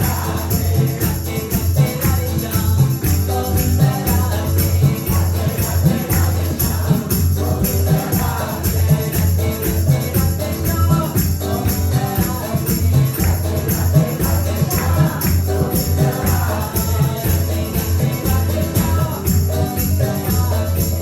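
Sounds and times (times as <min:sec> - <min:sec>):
bass: 0:00.0 - 0:21.0
group chanting: 0:00.0 - 0:21.0
jingling hand percussion: 0:00.0 - 0:21.0.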